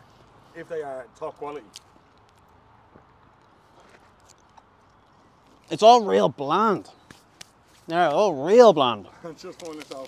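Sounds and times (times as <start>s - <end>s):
faint outdoor background: 0.0s - 10.0s.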